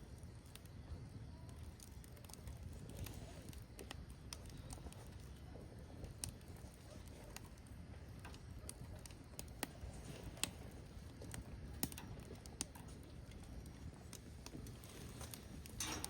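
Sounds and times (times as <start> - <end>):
low rumble of fire: 0.0 - 16.0
firewood popping and snapping: 0.1 - 16.0.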